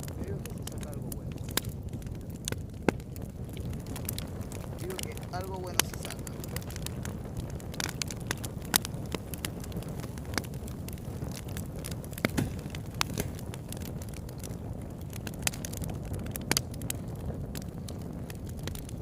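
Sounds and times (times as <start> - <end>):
campfire flame rushing: 0.0 - 19.0
fire crackles and pops: 0.0 - 19.0.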